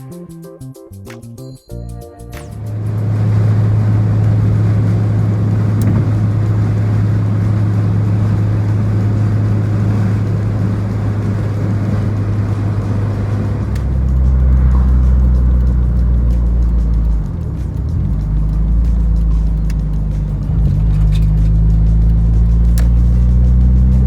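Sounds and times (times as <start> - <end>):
car engine humming: 2.2 - 24.0.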